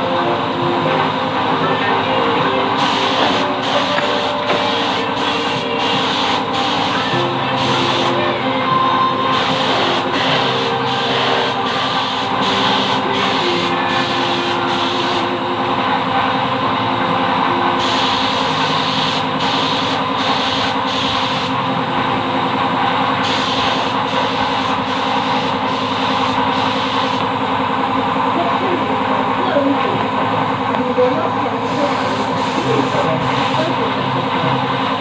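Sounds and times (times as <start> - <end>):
machine humming with hiss: 0.0 - 35.0.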